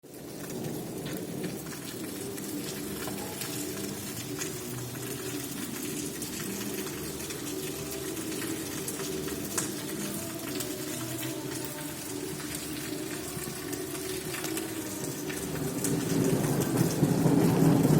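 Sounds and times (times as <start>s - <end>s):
heavy rain falling: 0.0s - 17.9s.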